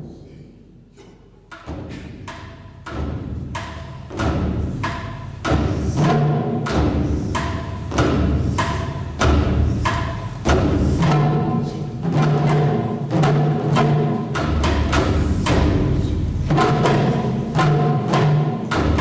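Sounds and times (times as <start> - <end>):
taiko drums playing: 1.5 - 19.0.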